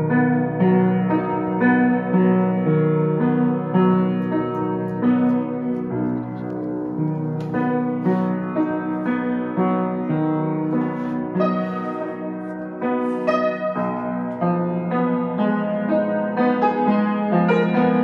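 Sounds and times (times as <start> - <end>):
upright piano playing: 0.0 - 18.0.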